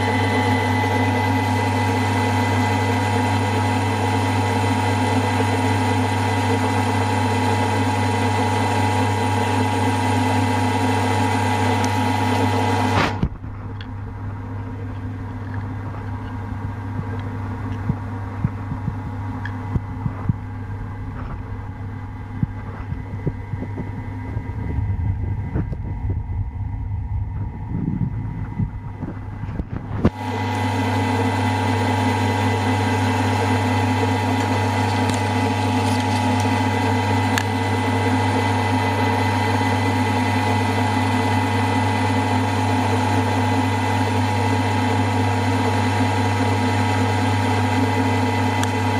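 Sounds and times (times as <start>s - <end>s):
milling machine humming: 0.0s - 48.9s.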